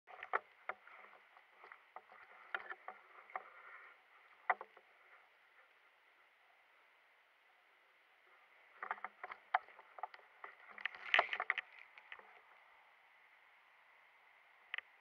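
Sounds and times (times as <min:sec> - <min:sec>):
faint rustle: 0:00.1 - 0:15.0.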